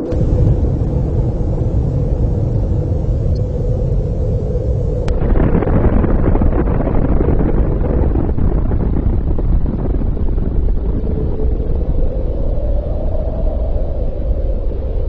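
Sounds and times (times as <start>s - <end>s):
explosion blast and rumble: 0.0s - 12.1s
steady low tone: 0.0s - 15.0s.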